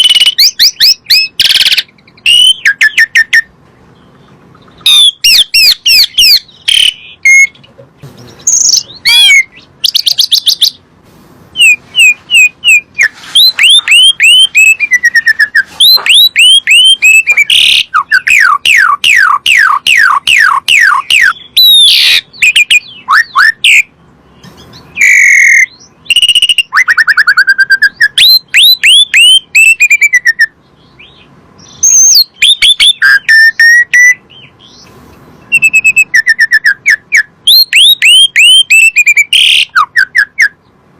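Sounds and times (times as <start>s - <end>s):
starling singing: 0.0s - 10.9s, 11.5s - 40.8s.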